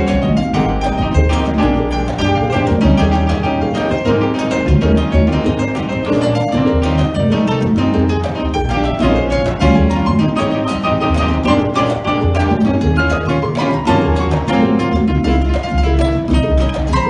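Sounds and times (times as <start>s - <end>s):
acoustic guitar: 0.0s - 17.0s
double bass: 0.0s - 17.0s
hand percussion: 0.0s - 17.0s
piano: 0.0s - 17.0s.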